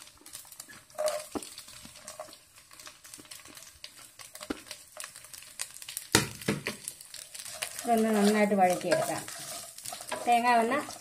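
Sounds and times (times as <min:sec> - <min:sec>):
oil crackling in a pan: 0:00.0 - 0:11.0.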